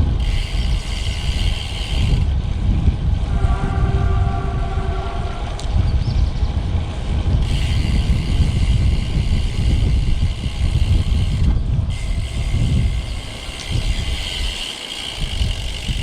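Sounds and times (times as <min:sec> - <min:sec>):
road noise: 0:00.0 - 0:16.0
wind rumbling on microphone: 0:00.0 - 0:16.0.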